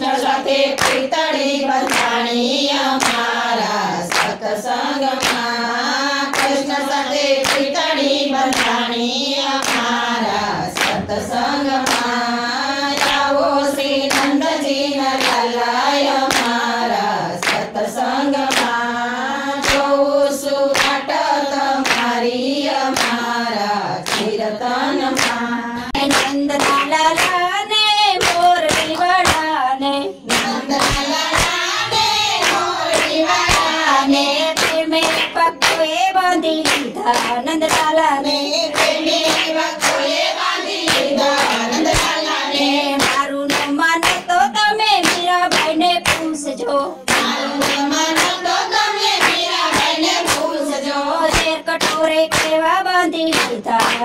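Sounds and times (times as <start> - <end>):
hand claps: 0.0 - 54.0
women singing together: 0.0 - 54.0.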